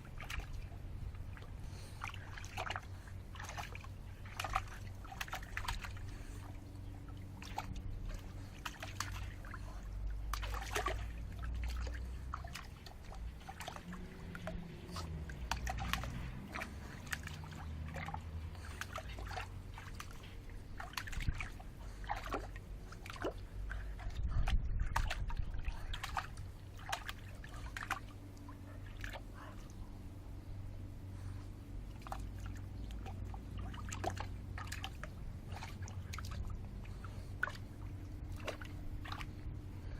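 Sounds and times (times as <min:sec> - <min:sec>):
dog splashing in water: 0:00.0 - 0:29.8, 0:31.8 - 0:39.4
low rumble: 0:00.0 - 0:39.9.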